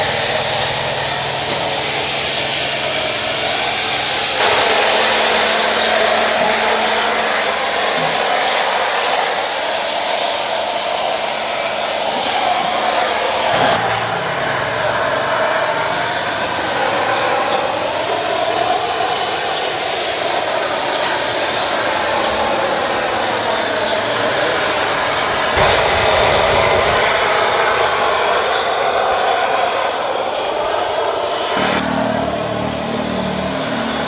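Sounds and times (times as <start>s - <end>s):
pressure washer spraying water: 0.0s - 34.0s.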